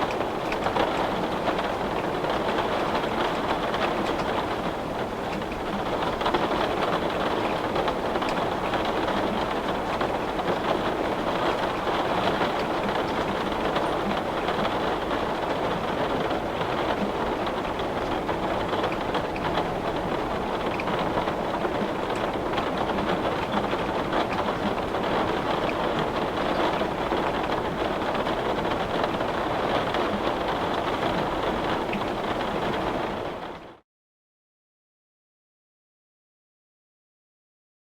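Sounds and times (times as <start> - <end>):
heavy rain on glass: 0.0 - 33.8.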